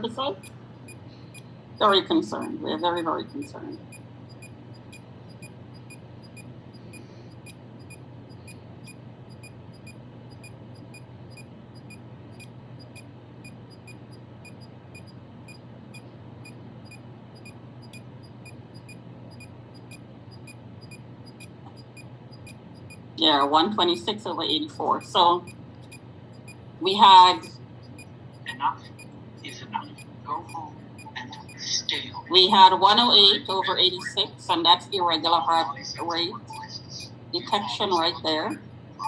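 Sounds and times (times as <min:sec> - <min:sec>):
faint regular ticking: 0:00.0 - 0:31.9, 0:36.5 - 0:38.7
steady low hum: 0:00.0 - 0:39.0.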